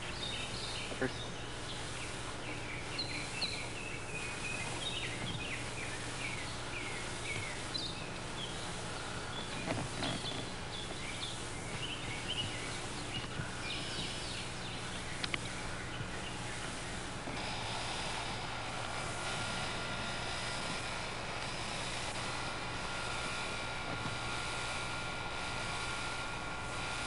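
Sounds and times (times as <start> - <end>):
birds chirping: 0.0 - 27.0
low hum and hiss: 0.0 - 27.0.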